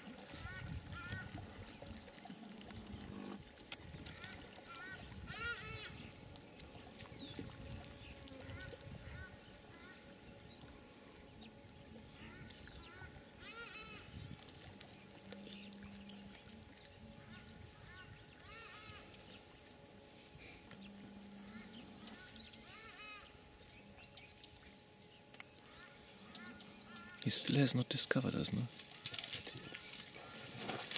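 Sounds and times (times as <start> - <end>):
faint low hum: 0.0 - 30.9
high insect drone: 0.0 - 30.9.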